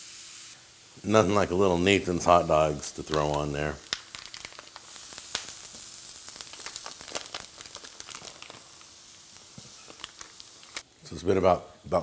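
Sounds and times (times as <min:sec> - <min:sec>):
meat sizzling on grill: 0:00.0 - 0:10.9.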